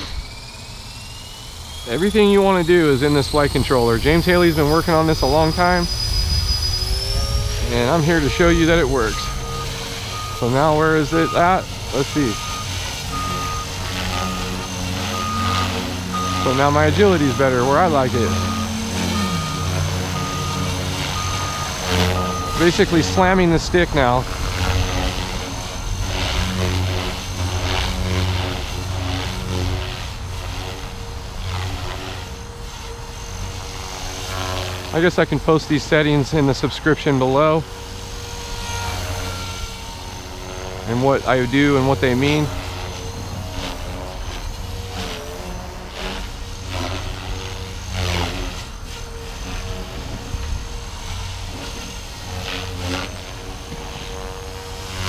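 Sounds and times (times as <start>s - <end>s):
rc helicopter motor and rotor hum: 0.0s - 55.0s.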